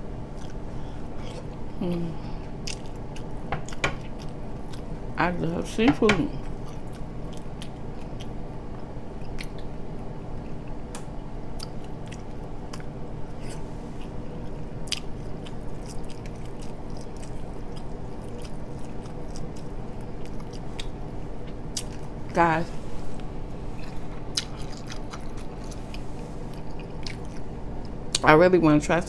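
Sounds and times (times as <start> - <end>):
steady low hum: 0.0 - 29.0
close chewing mouth sounds: 0.3 - 5.0, 6.4 - 9.8, 11.5 - 22.3, 23.7 - 28.2.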